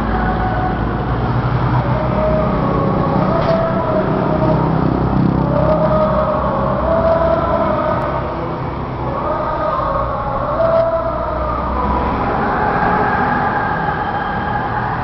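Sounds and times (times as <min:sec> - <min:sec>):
constant low hum: 0:00.0 - 0:15.0
vehicle engines passing: 0:00.0 - 0:15.0.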